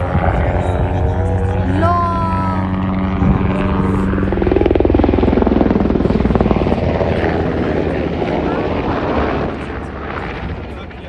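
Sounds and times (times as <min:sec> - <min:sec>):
helicopter engine hum: 0:00.0 - 0:11.0
helicopter rotor chop: 0:00.0 - 0:11.0.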